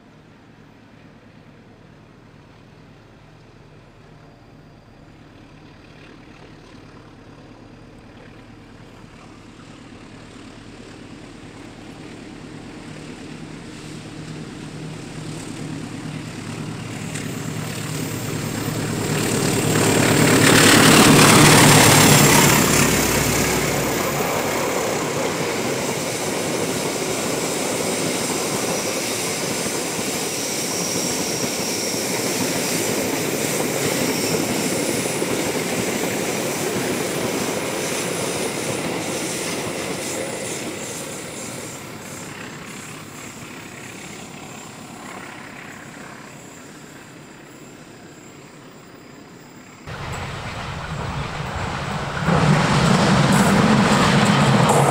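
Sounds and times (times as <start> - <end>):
diesel locomotive engine: 0.0 - 54.9
train wheels rumbling on rails: 8.1 - 49.0, 49.8 - 54.9.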